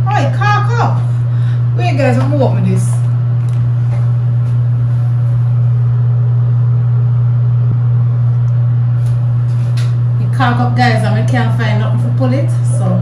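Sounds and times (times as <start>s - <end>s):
loud steady low hum: 0.0s - 13.0s.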